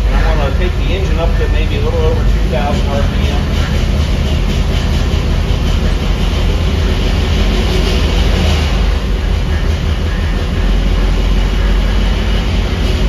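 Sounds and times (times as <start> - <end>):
engine running on dyno: 0.0 - 13.0.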